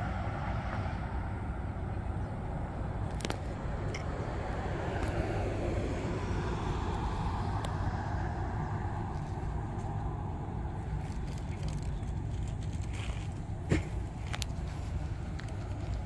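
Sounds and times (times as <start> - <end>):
low traffic rumble: 0.0 - 16.0
passing vehicle: 0.0 - 16.0.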